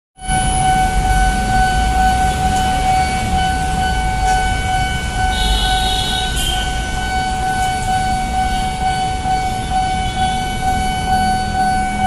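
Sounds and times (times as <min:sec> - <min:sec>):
level crossing alarm tone: 0:00.2 - 0:12.0
road traffic rumble: 0:00.2 - 0:12.0.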